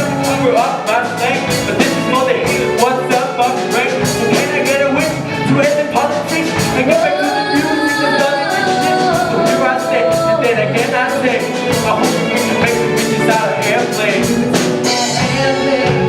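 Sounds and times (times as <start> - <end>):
person singing over a band: 0.0 - 16.0
steady drum beat: 0.0 - 16.0.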